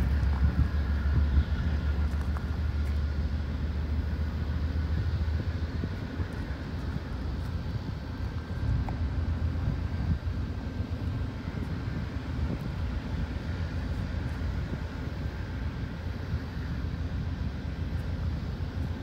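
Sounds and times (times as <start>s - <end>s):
locomotive engine rumble: 0.0s - 19.0s.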